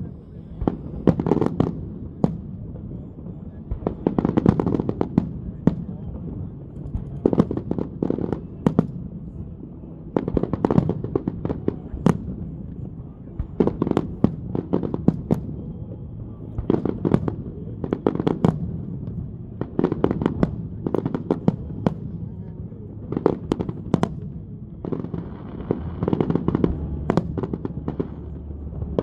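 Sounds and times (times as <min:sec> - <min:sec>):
fireworks bangs and crackles: 0:00.0 - 0:29.0
steady rumble: 0:00.0 - 0:29.0.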